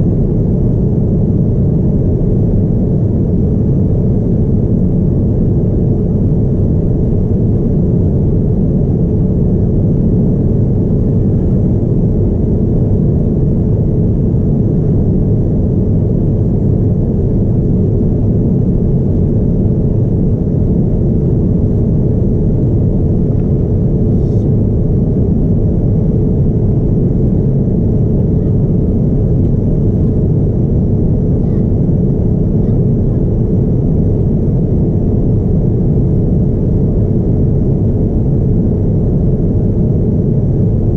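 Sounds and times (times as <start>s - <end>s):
airliner cabin rumble: 0.0s - 40.9s
faint steady hum: 0.0s - 40.9s.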